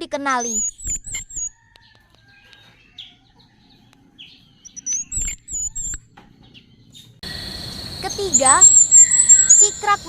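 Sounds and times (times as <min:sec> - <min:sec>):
warbler chirping: 0:00.2 - 0:10.0.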